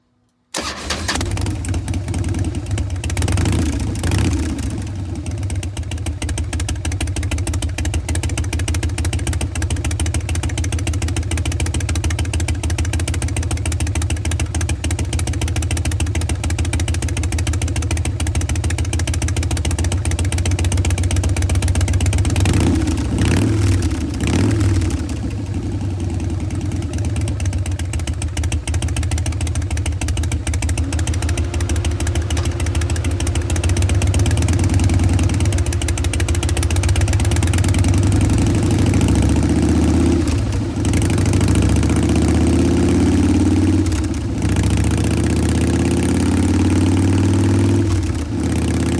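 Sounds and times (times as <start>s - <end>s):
motorcycle engine idling: 0.6s - 48.9s.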